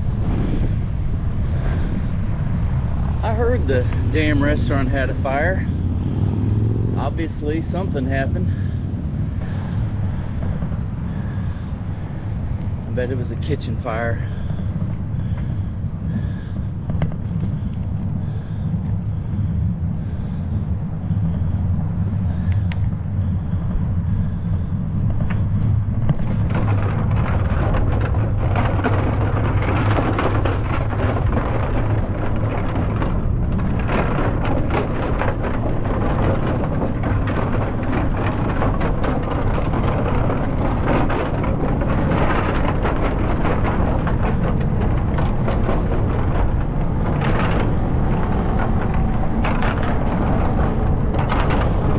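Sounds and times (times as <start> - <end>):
bicycle tyre noise on pavement: 0.0 - 51.9
wind buffeting microphone: 0.0 - 51.9
crackly rattle: 3.0 - 51.9.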